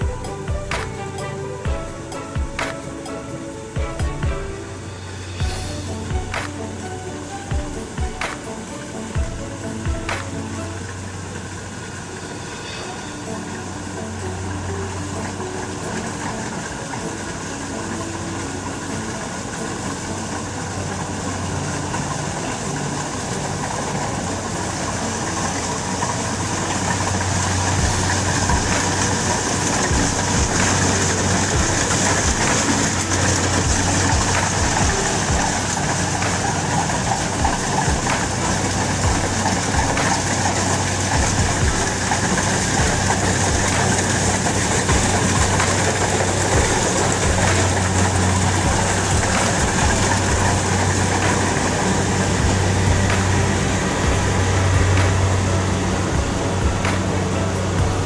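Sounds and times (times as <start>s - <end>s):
combine harvester engine hum: 0.0s - 58.0s.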